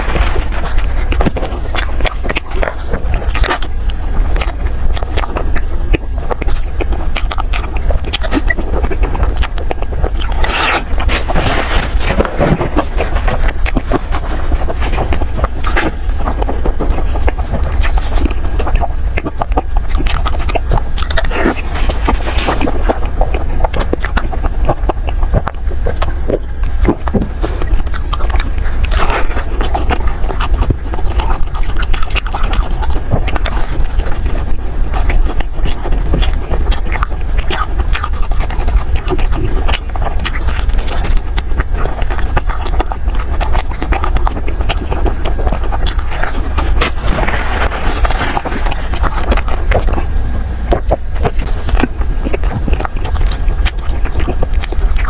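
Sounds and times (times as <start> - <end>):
chewing soft food: 0.0 - 55.0
small wet clicks and crackles: 0.0 - 55.0
steady low hum: 0.0 - 55.0.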